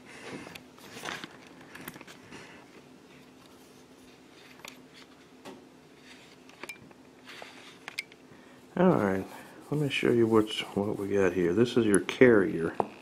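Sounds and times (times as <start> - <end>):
faint steady hum: 0.0 - 13.0
soft rustle: 0.8 - 6.5, 7.2 - 7.9, 8.7 - 12.8.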